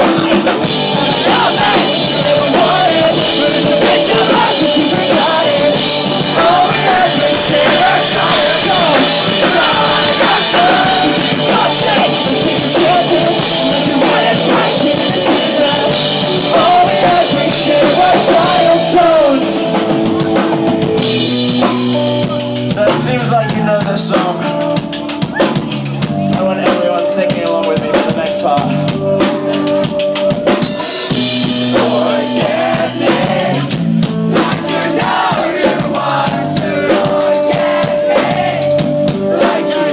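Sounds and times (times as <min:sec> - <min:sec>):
pop-punk band playing live: 0:00.0 - 0:39.9.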